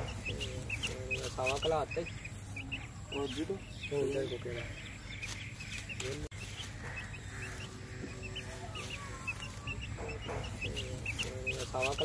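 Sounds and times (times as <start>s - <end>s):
chick peeping: 0.0s - 12.0s
hen clucking: 0.0s - 12.0s.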